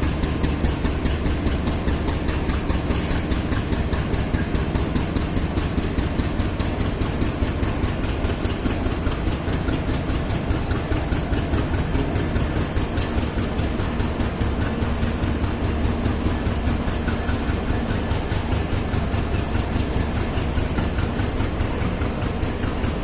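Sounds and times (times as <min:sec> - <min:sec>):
locomotive engine idling: 0:00.0 - 0:23.0.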